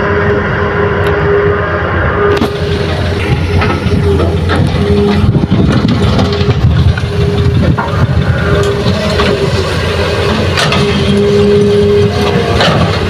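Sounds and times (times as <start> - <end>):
excavator diesel engine: 0.0 - 13.0
hydraulic humming: 0.0 - 13.0.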